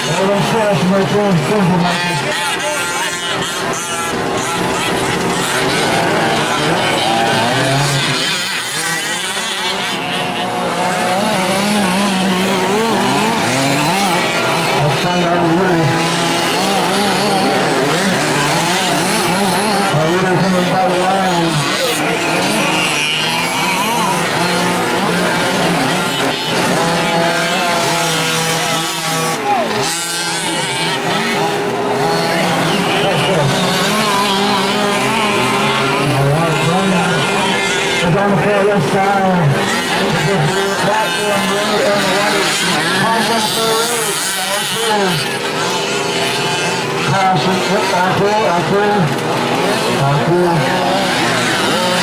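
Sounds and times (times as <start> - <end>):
rc truck engines revving: 0.0 - 52.0.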